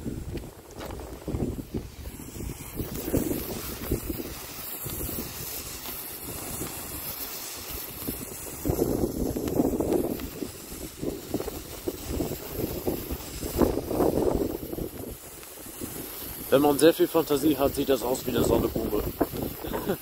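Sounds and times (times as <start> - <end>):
firework fountain hissing: 0.0 - 20.0
wind buffeting microphone: 0.0 - 20.0.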